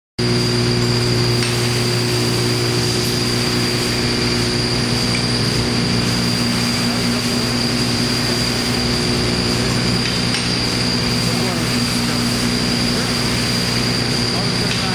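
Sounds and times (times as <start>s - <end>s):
thin high tone: 0.2s - 14.9s
vibratory table humming: 0.2s - 14.9s.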